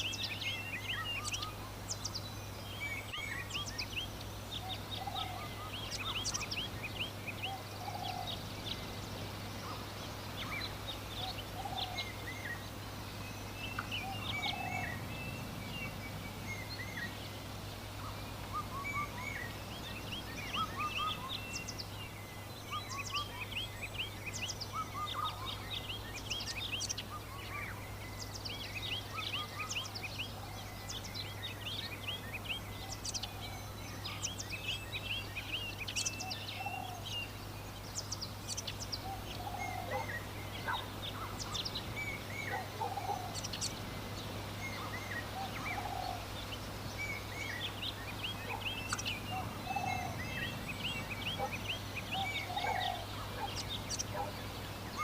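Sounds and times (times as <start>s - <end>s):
birds chirping: 0.0s - 55.0s
low bird call: 2.8s - 55.0s.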